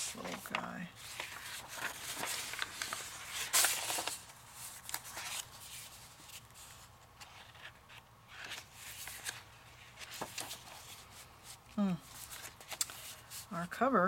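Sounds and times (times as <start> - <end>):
paper rustling and sliding: 0.0 - 13.5.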